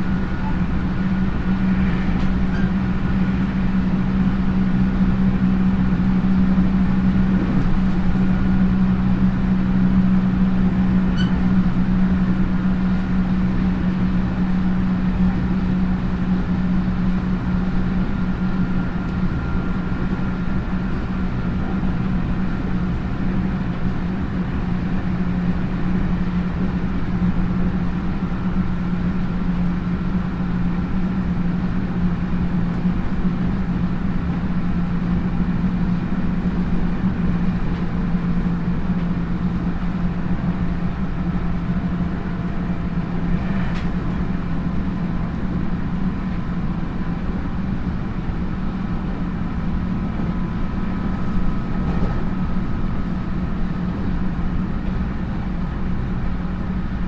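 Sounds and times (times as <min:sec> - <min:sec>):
constant low hum: 0:00.0 - 0:57.0
train wheels rumbling on rails: 0:00.0 - 0:57.0.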